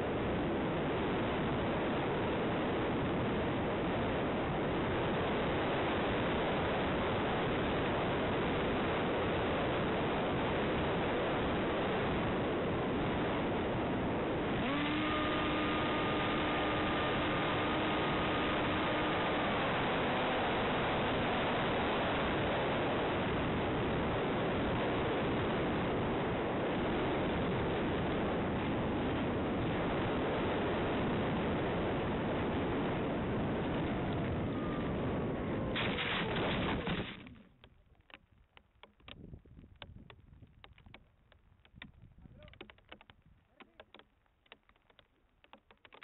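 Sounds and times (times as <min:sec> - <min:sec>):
wind rushing over microphone: 0:00.0 - 0:37.4, 0:39.0 - 0:43.9.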